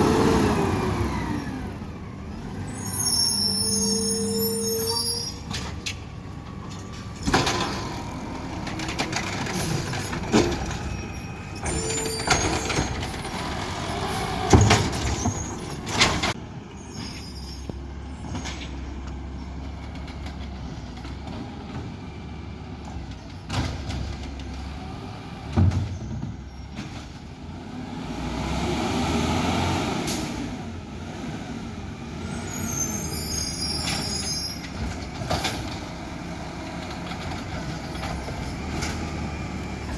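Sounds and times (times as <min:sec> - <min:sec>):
garbage truck engine rumbling: 0:00.0 - 0:39.9.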